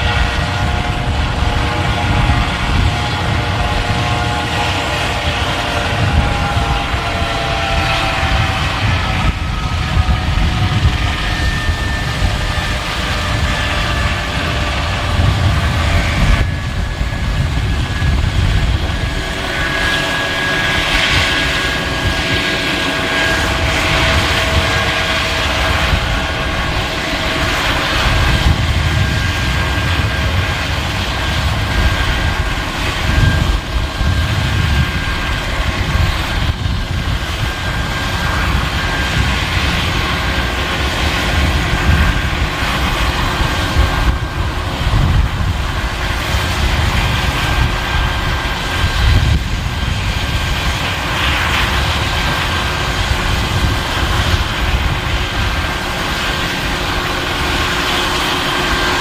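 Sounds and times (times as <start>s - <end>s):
helicopter rotors turning: 0.0s - 59.0s
helicopter turbine engines whining: 0.0s - 59.0s.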